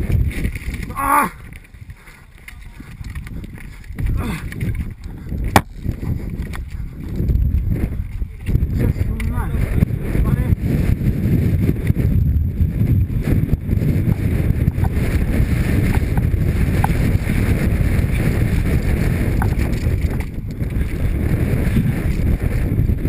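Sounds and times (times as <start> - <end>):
bike clicks and rattles: 0.0 - 23.0
tyres rumbling on loose dirt: 0.0 - 23.0
wind buffeting microphone: 0.0 - 23.0.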